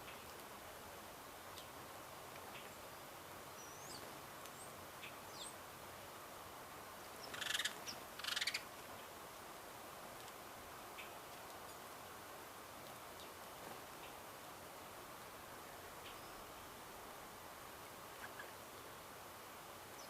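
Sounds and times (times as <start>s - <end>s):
outdoor hiss: 0.0s - 20.0s
songbirds chirping: 0.0s - 20.0s.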